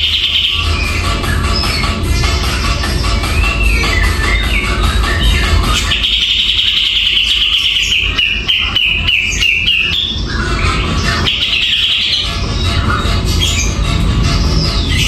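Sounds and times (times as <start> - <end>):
background music: 0.0 - 15.0
bulbul singing trills: 0.0 - 15.0.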